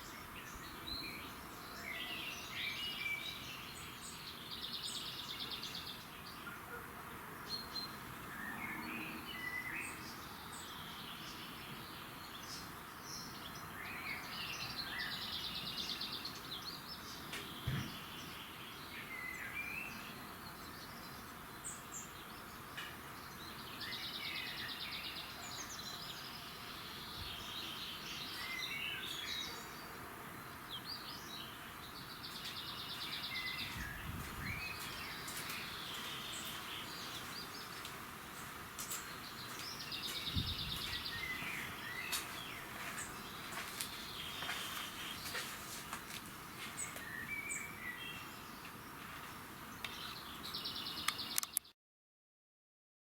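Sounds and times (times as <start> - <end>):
songbirds chirping: 0.0 - 51.7
steady outdoor hiss: 0.0 - 51.7.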